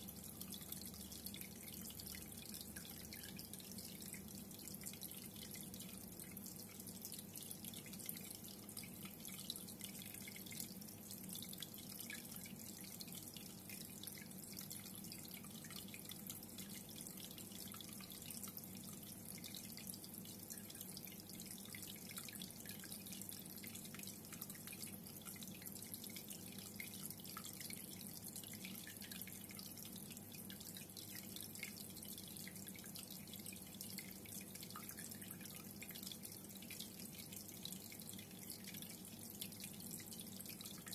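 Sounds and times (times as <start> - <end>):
aquarium water trickling: 0.0 - 40.9.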